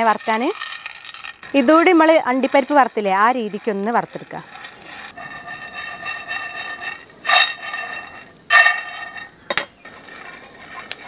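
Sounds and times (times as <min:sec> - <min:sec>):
pan scraping on metal pan support: 0:00.0 - 0:11.0.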